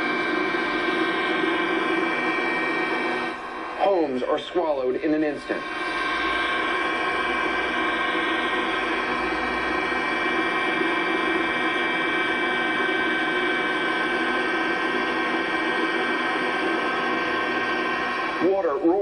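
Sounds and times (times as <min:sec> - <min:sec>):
sustained drone of held tones: 0:00.0 - 0:19.0.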